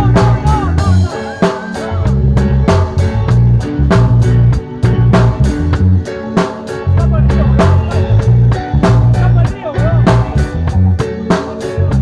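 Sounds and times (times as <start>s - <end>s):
band music: 0.0s - 12.0s
bass guitar: 0.0s - 12.0s
drum kit beat: 0.0s - 12.0s.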